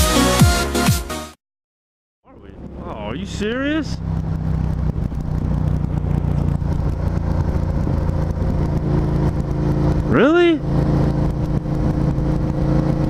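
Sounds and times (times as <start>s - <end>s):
motorcycle engine running: 2.3s - 13.0s
wind noise: 2.3s - 13.0s.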